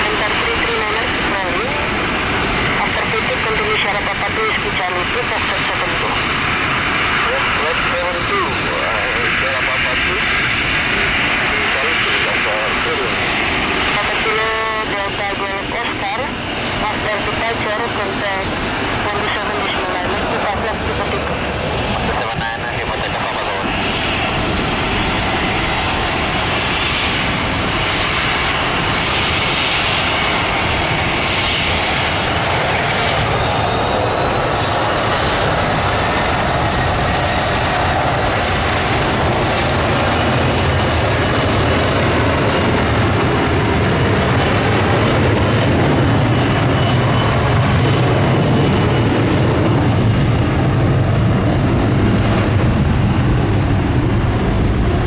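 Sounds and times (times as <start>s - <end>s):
jet engine rumble: 0.0s - 55.0s
jet engine whine: 0.0s - 55.0s.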